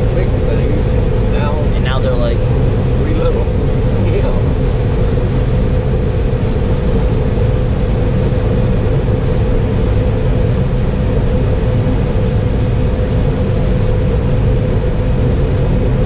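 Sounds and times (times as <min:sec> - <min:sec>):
combine harvester rumbling: 0:00.0 - 0:16.0.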